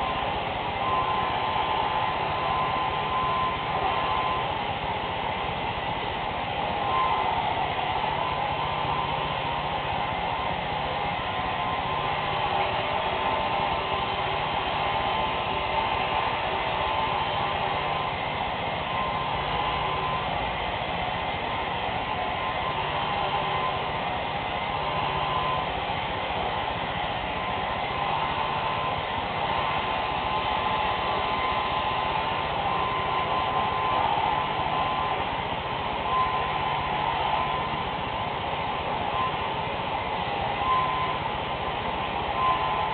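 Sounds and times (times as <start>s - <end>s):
hair dryer blowing: 0.0s - 42.9s.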